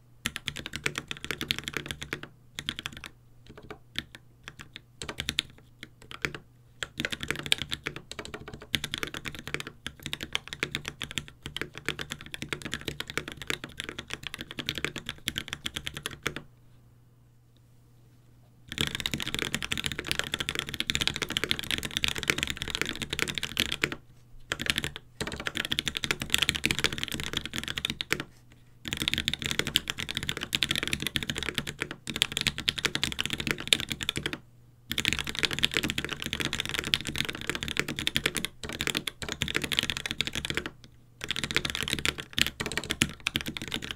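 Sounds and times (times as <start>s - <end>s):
mechanical keyboard typing: 0.2s - 16.4s, 18.7s - 43.9s.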